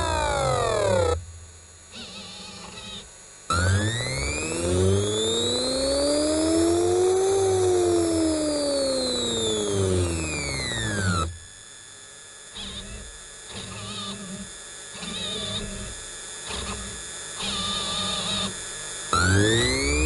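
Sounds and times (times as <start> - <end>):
stepper motors whining: 0.0 - 11.6, 12.6 - 20.0.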